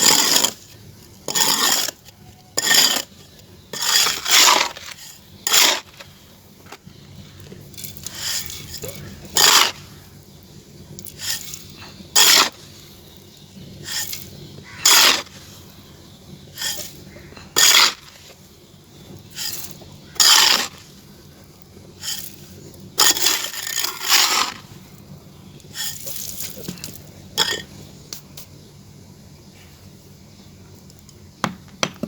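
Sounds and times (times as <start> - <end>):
dry clay scraping crunches: 0.0 - 28.6.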